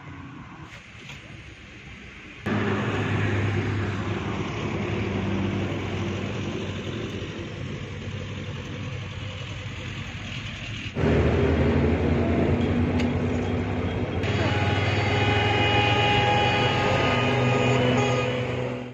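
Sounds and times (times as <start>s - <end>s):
heavy vehicle engine running: 0.1s - 18.9s.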